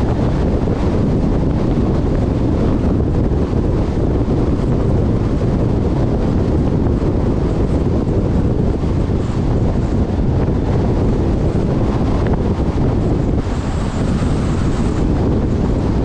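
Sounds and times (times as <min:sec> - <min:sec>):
car road noise at highway speed: 0:00.0 - 0:16.0
wind buffeting microphone: 0:00.0 - 0:16.0.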